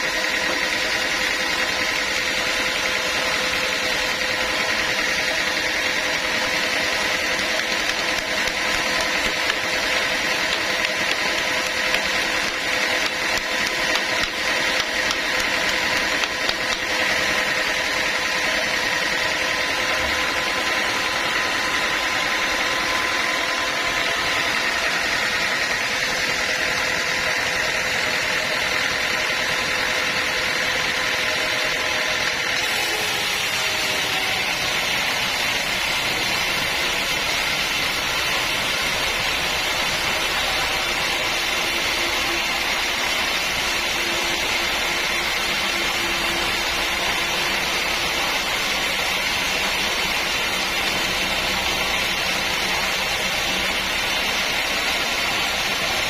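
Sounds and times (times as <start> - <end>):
sawmill machinery hissing: 0.0 - 56.0.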